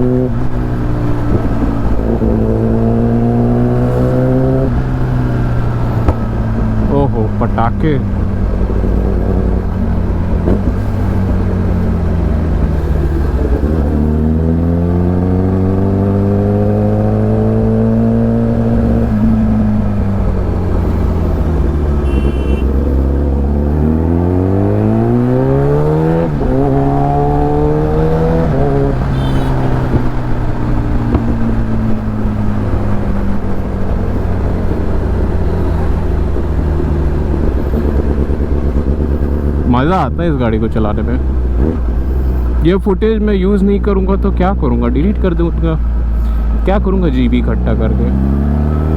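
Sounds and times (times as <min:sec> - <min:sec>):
motorcycle engine revving: 0:00.0 - 0:42.7, 0:43.9 - 0:48.9.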